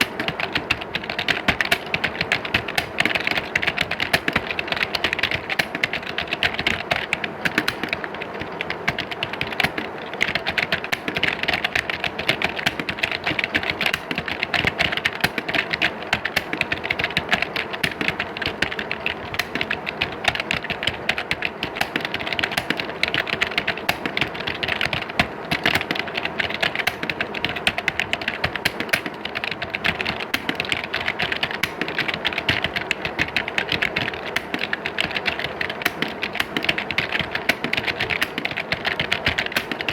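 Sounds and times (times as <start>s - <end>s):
many keyboards typing: 0.0s - 39.9s.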